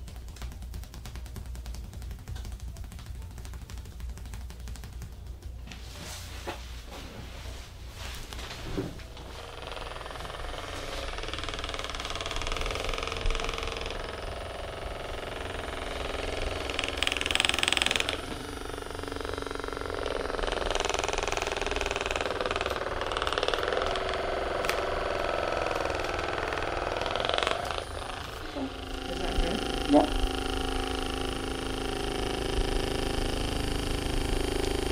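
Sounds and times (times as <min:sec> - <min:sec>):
massage gun hammering: 0:00.0 - 0:05.7, 0:09.1 - 0:34.9.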